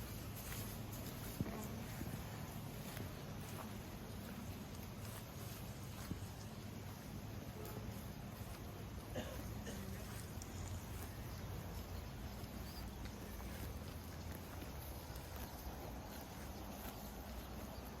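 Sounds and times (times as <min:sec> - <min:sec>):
cattle moving knocks and clicks: 0:00.0 - 0:18.0.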